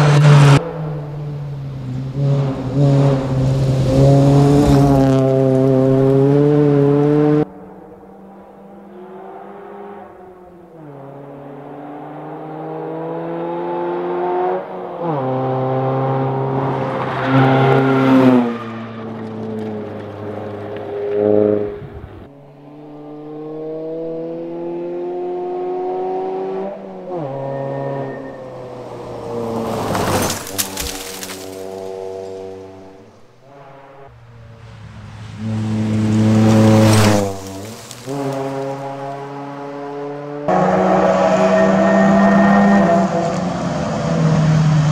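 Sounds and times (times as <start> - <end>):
rally car engine at full throttle: 0.0 - 44.9.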